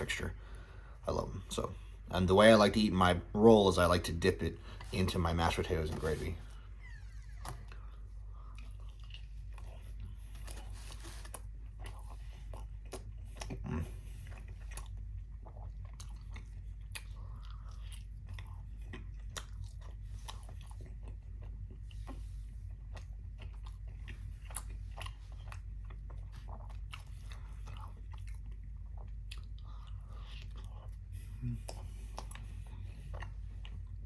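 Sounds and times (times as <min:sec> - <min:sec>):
steady low hum: 0:00.0 - 0:34.0
person chewing food: 0:04.1 - 0:34.0.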